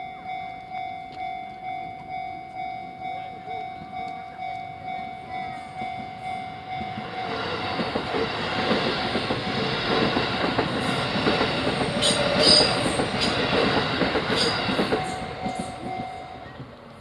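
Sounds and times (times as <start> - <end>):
level-crossing warning bell: 0.0 - 17.0
train wheels clattering on rails: 1.1 - 17.0.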